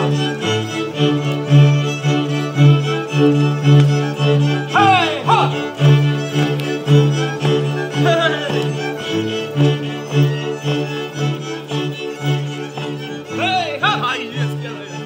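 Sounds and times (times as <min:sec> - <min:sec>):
fiddles playing dance tune: 0:00.0 - 0:15.0.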